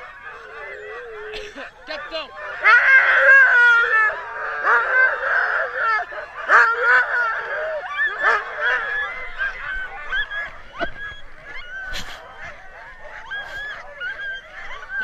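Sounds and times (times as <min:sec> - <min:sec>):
dogs yelping barking and howling: 0:00.0 - 0:15.0.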